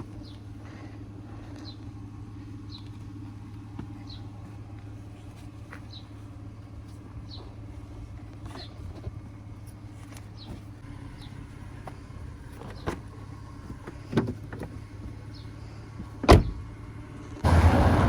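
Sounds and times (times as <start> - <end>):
car engine humming: 0.0 - 18.0.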